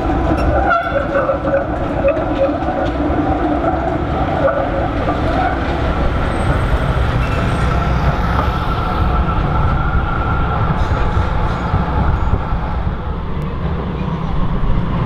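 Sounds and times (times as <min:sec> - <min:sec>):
road traffic: 0:00.0 - 0:15.0
tram wheels rumbling: 0:00.0 - 0:15.0
tram whining hum: 0:00.0 - 0:15.0.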